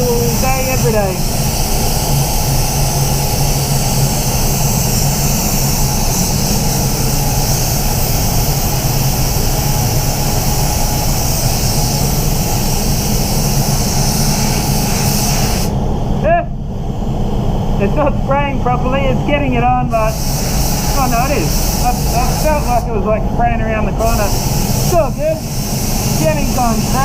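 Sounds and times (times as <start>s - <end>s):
spray gun air hiss: 0.0s - 15.8s, 19.9s - 23.1s, 23.7s - 27.0s
low hum: 0.0s - 27.0s.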